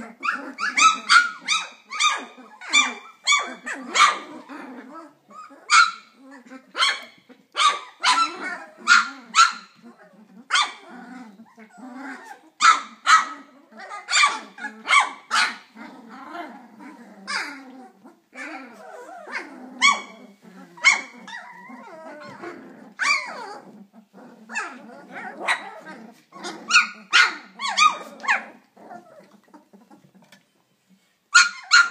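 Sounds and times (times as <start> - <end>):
puppies yipping and barking: 0.0 - 16.1, 16.7 - 30.4, 31.3 - 31.9
low puppy sounds: 0.0 - 30.5.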